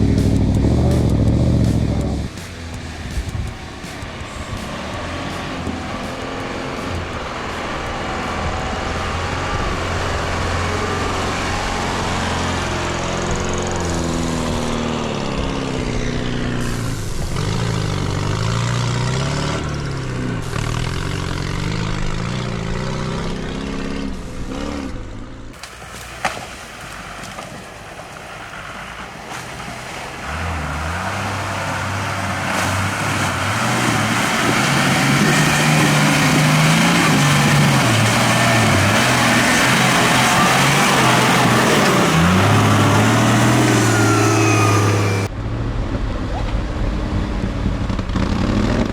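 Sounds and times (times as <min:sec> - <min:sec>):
truck engines revving: 0:00.0 - 0:48.9.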